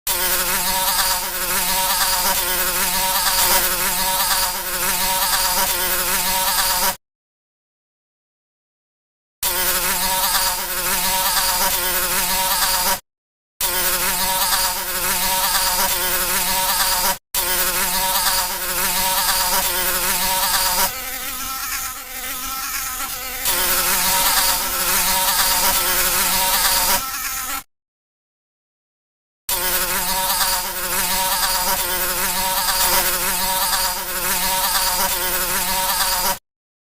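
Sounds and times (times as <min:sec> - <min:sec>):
fly buzzing: 0:00.1 - 0:07.0, 0:09.4 - 0:13.0, 0:13.6 - 0:27.7, 0:29.5 - 0:36.4.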